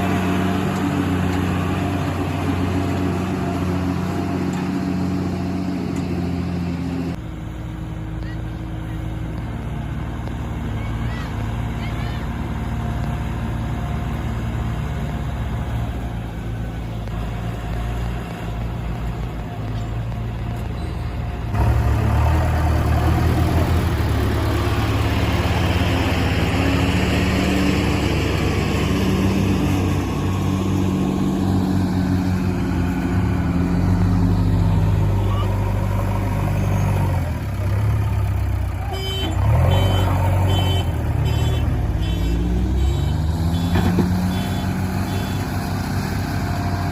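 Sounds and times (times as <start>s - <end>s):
diesel engine under load: 0.0s - 46.9s.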